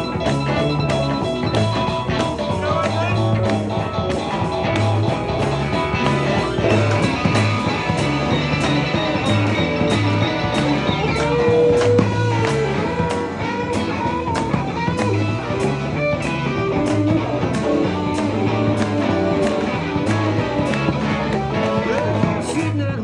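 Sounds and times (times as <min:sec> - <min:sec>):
electric guitars: 0:00.0 - 0:23.0
steady drum beat: 0:00.0 - 0:23.0
walking bass line: 0:00.0 - 0:23.0.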